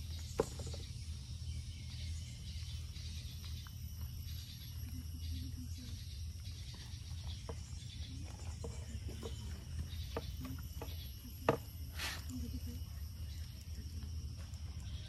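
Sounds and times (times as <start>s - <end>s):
faint insect chorus: 0.0s - 15.0s.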